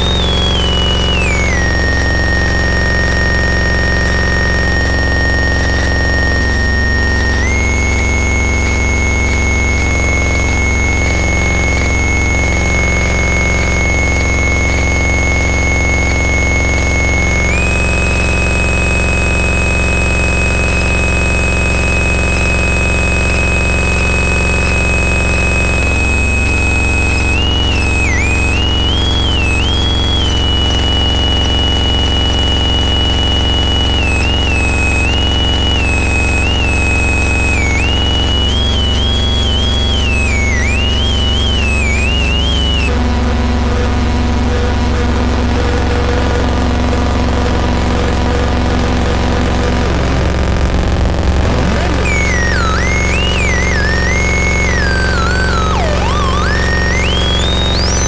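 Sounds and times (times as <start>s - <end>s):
piercing whistling tone: 0.0s - 43.0s, 51.3s - 58.0s
distorted noise wall: 0.0s - 58.0s.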